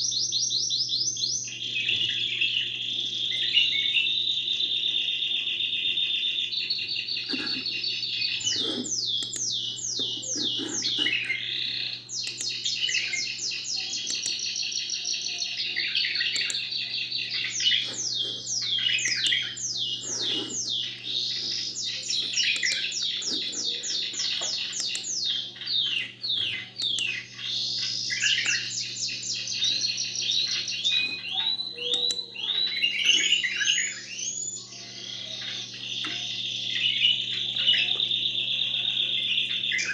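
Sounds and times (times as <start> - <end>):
birds singing high rapid trills: 0.0 - 39.9.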